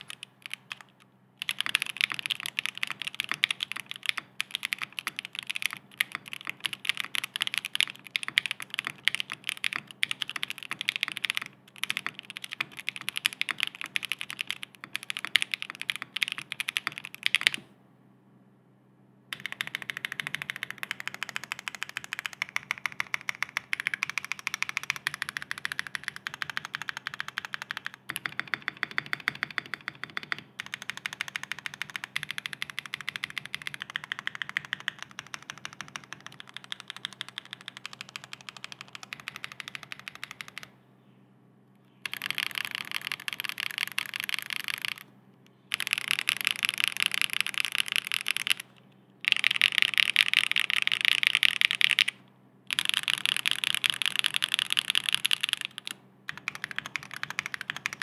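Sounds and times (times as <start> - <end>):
mechanical keyboard typing: 0.0 - 17.6, 19.3 - 40.7, 42.0 - 45.1, 45.7 - 58.0.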